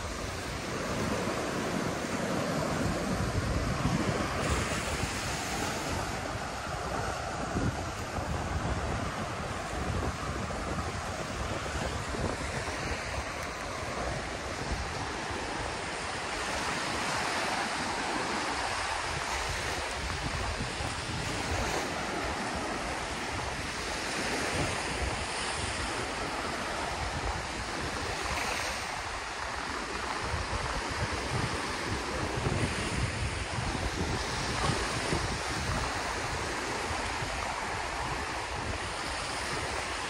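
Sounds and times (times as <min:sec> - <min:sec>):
sea waves breaking on beach: 0:00.0 - 0:40.0
wind buffeting microphone: 0:00.0 - 0:40.0.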